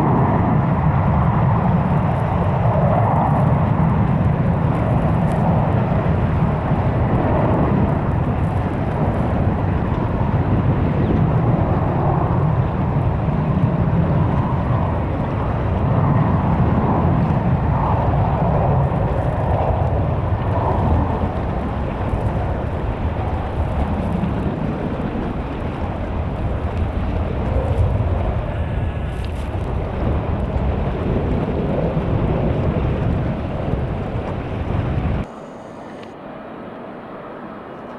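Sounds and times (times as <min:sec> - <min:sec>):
jet engines rumbling: 0:00.0 - 0:37.9.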